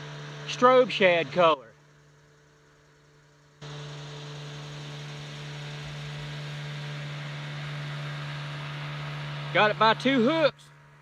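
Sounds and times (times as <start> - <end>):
steady low hum with hiss: 0.0 - 11.0.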